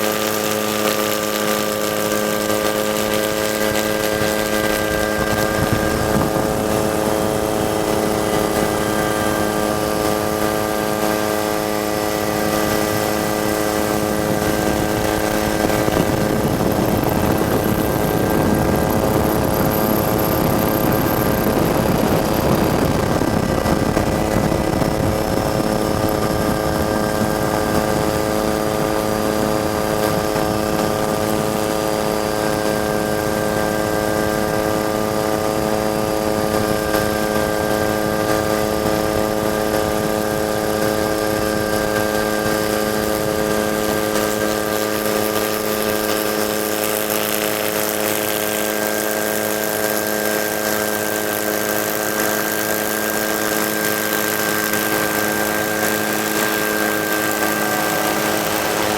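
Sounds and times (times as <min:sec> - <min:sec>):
helicopter engine and rotor drone: 0:00.0 - 0:58.9
thin high whine: 0:00.0 - 0:58.9.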